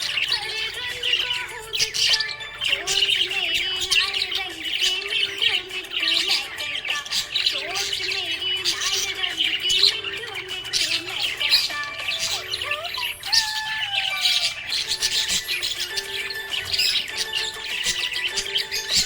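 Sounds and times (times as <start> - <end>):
background music: 0.0 - 19.0
budgerigars chirping and warbling: 0.0 - 19.0.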